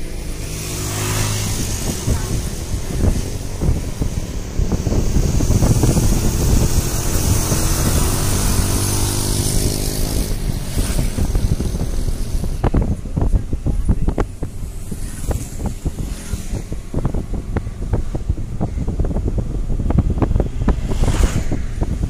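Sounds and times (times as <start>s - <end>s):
vehicle engine running: 0.0s - 22.0s
wind buffeting microphone: 0.0s - 22.0s.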